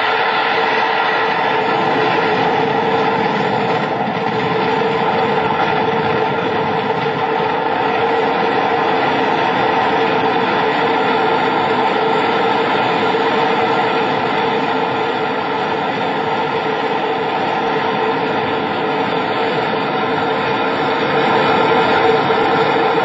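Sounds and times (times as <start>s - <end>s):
roar of burning fireworks: 0.0s - 23.0s.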